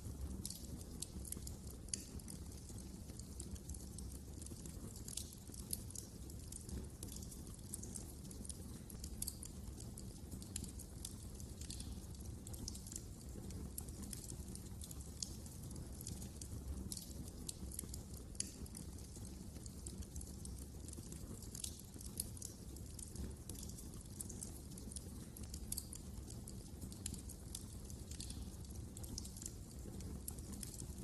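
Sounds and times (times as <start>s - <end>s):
fire crackles and pops: 0.0s - 31.0s
low rumble of fire: 0.0s - 31.0s.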